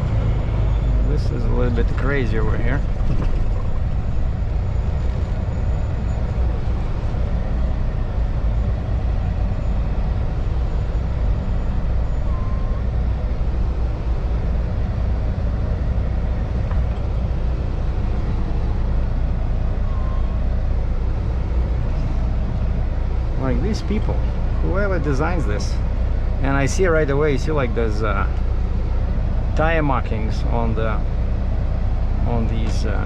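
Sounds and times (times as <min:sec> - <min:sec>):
diesel truck engine rumble: 0:00.0 - 0:33.0.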